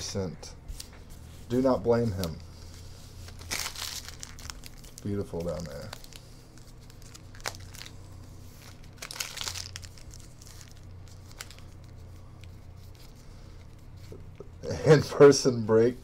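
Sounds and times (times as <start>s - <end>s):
trading cards rustling: 0.7s - 14.4s.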